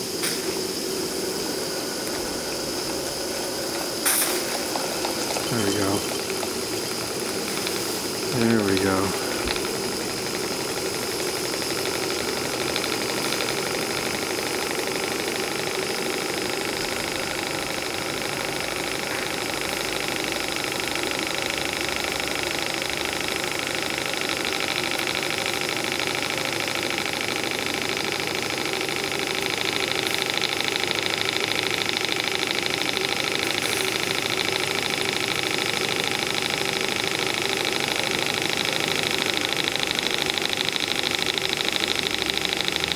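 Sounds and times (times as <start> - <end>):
model steam engine beat: 0.0 - 42.9
steam hiss: 0.0 - 42.9.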